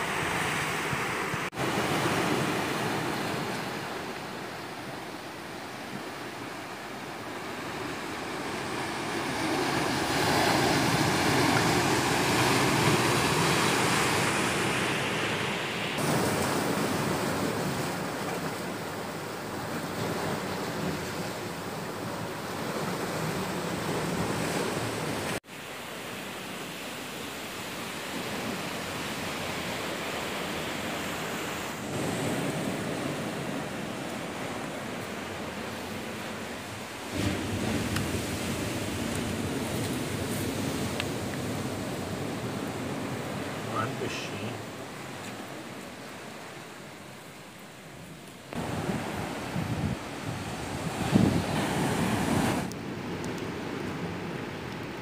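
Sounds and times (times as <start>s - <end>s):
surf washing over rocks: 0.0s - 55.0s.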